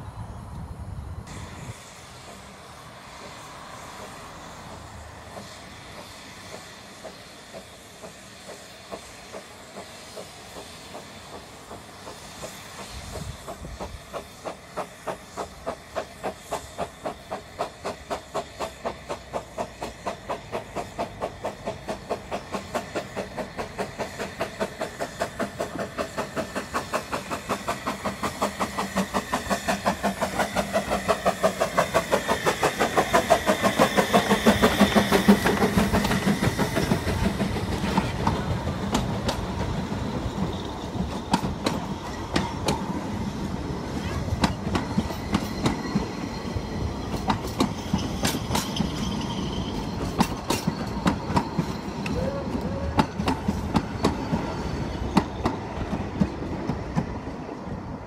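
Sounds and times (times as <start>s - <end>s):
steam hissing: 0.2s - 58.0s
steam locomotive chuffing: 0.8s - 58.0s.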